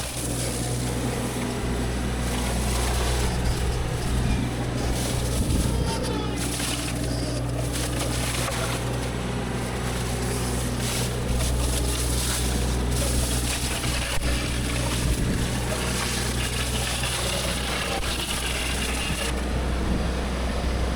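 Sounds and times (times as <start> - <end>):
diesel engine humming: 0.0 - 20.9.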